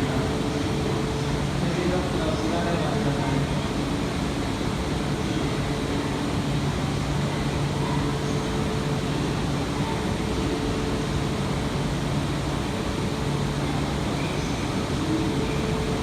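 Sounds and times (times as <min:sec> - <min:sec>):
train humming: 0:00.0 - 0:16.0.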